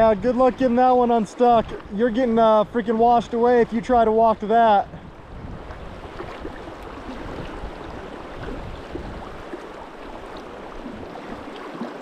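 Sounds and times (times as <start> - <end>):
fast river current rushing: 0.7 - 12.0.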